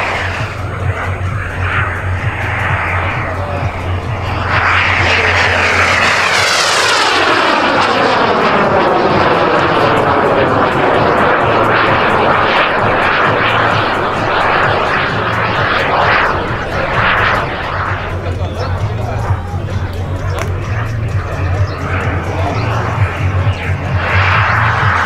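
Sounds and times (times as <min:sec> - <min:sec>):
model jet turbine whine: 0:00.0 - 0:25.0.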